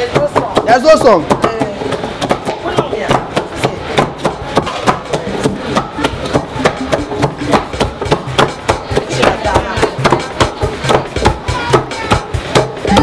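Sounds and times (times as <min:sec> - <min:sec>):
wooden pestles pounding in mortar: 0:00.0 - 0:13.0.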